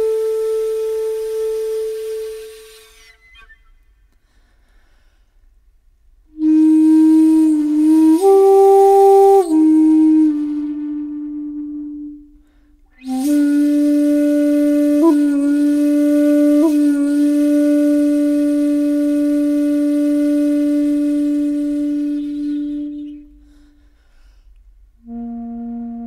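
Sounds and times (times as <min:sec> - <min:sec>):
solo flute playing low notes: 0:00.0 - 0:04.2, 0:06.2 - 0:26.0.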